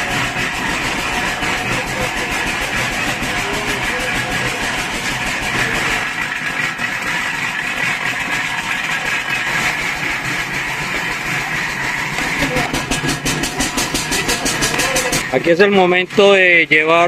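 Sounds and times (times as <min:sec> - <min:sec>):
engine drone: 0:00.0 - 0:17.0
hissing grinding of mill: 0:00.0 - 0:17.0.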